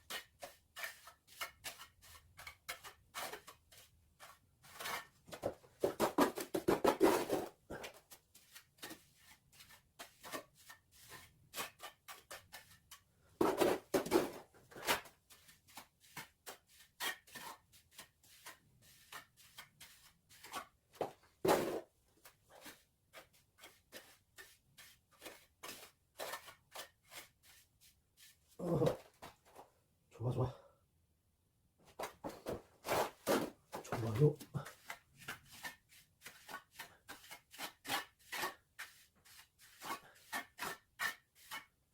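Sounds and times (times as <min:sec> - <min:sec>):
trowel scraping mortar: 0:00.0 - 0:29.4, 0:32.0 - 0:41.8.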